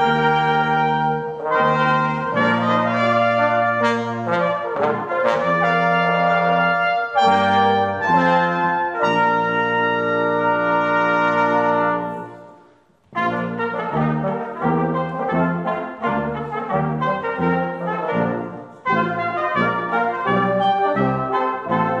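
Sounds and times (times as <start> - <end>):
brass ensemble playing: 0.0 - 22.0.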